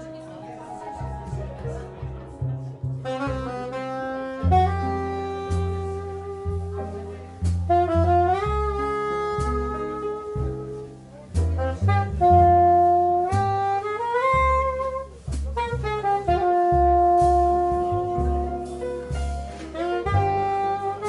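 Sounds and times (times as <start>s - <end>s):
double bass: 0.0s - 21.0s
drums: 0.0s - 21.0s
piano: 0.0s - 21.0s
saxophone solo melody: 3.0s - 21.0s.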